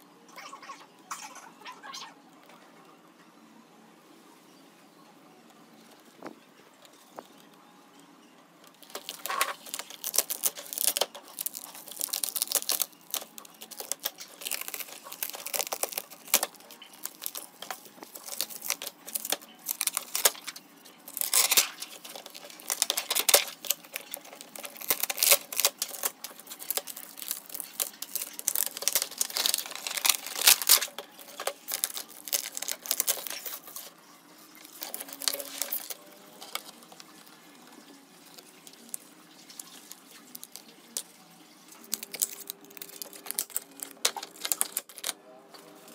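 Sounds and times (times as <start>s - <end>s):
plastic film crinkling and peeling: 8.6s - 45.9s.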